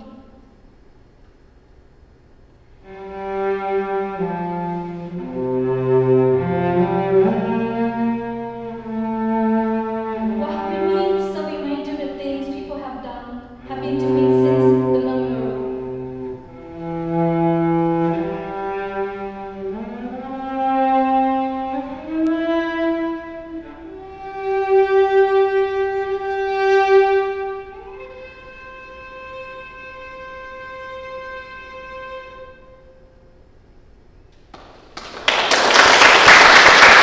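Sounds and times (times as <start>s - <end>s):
bowed cello long notes: 2.7s - 33.6s.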